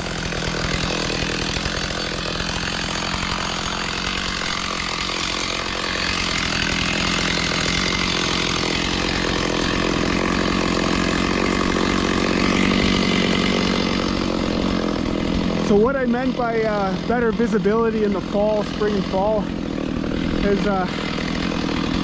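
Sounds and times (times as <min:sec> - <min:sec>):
gas-engine saw cutting brush: 0:00.0 - 0:22.0.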